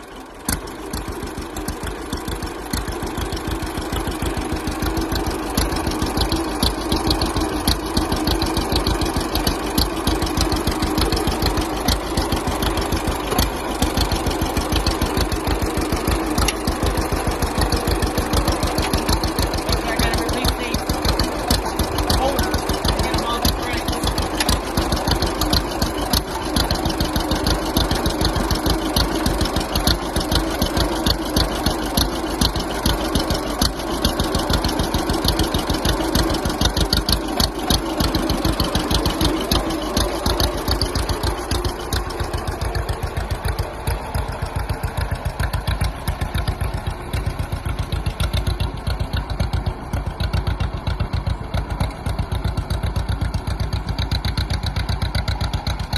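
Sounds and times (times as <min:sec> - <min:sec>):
tractor engine popping exhaust: 0:00.0 - 0:55.9.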